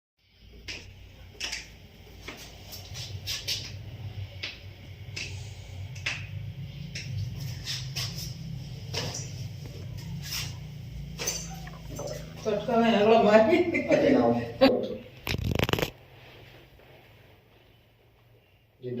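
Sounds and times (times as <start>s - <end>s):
low steady hum: 0.2s - 18.9s.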